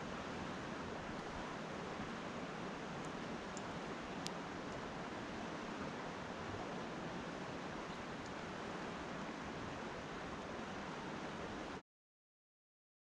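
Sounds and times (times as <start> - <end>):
river water rushing: 0.0 - 11.8.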